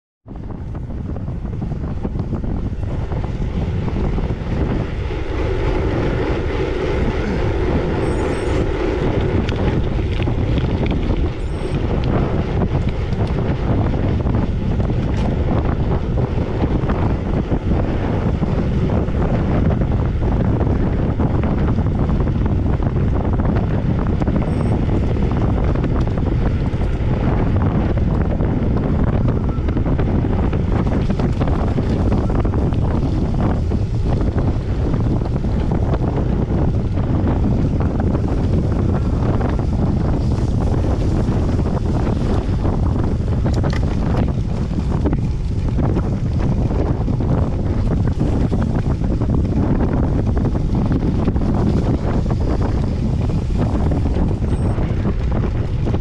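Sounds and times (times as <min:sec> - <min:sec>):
wind buffeting microphone: 0:00.2 - 0:56.0.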